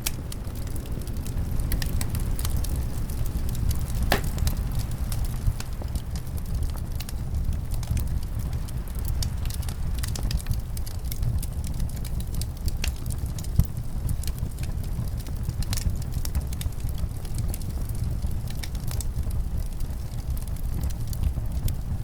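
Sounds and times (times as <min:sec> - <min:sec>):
low rumble of wind: 0:00.0 - 0:22.0
wood fire crackling and popping: 0:00.0 - 0:22.0.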